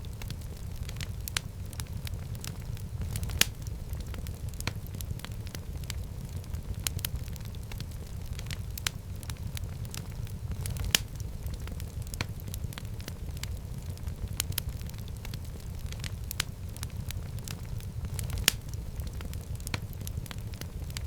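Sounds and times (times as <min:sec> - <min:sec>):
fire crackles and pops: 0:00.0 - 0:21.0
fire flames rumbling: 0:00.0 - 0:21.0.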